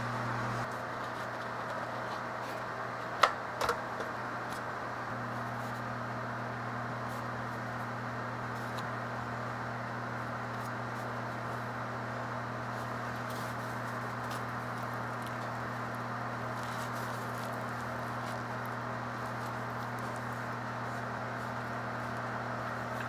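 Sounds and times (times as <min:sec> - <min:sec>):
appliance humming: 0:00.0 - 0:23.0.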